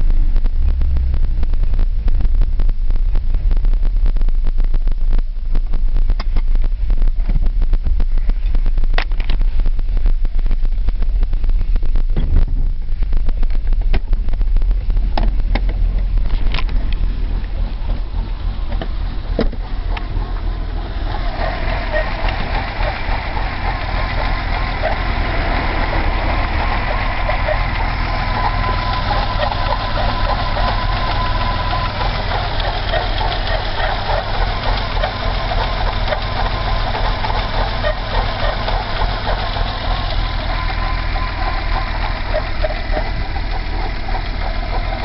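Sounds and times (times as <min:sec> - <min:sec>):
car driving heard from cabin: 0:00.0 - 0:45.0
car engine idling roughly: 0:00.0 - 0:45.0.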